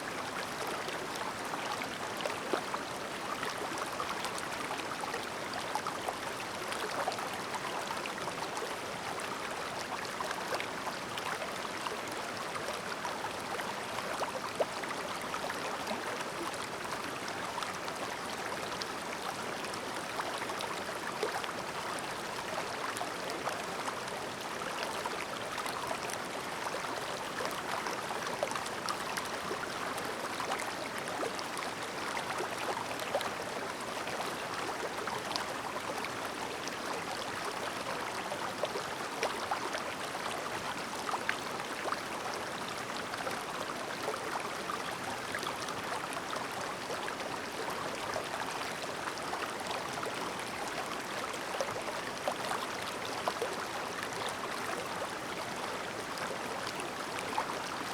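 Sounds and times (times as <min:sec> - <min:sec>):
stream babbling: 0:00.1 - 0:57.9.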